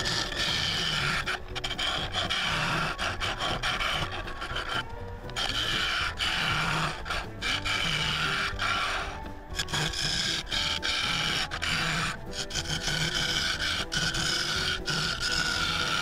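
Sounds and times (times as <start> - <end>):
tool scraping wooden bowl: 0.0 - 16.0
wood lathe spinning: 0.0 - 16.0.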